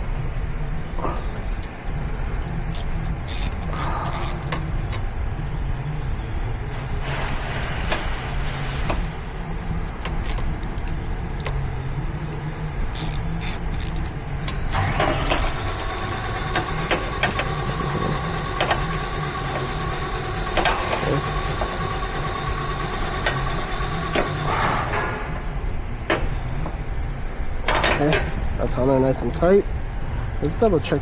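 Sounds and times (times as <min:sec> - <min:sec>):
steady low hum: 0:00.0 - 0:31.0
steady whine: 0:00.0 - 0:31.0.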